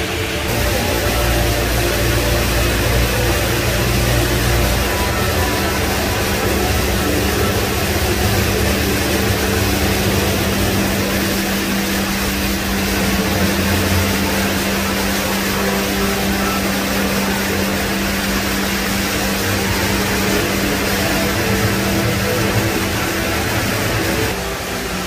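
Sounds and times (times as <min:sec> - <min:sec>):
low hum: 0:00.0 - 0:25.0
waterfall rushing: 0:00.0 - 0:25.0.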